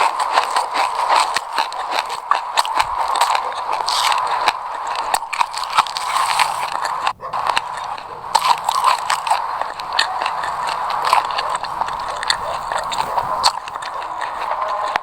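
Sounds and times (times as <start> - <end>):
chewing crunchy seeds: 0.0 - 15.0.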